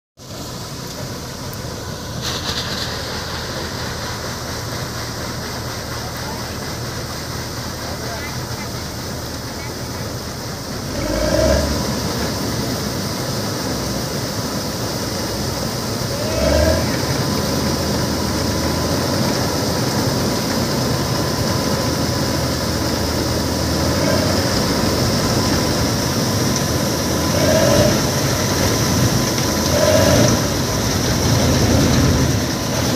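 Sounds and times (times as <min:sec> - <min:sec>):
combine harvester running: 0:00.2 - 0:32.9.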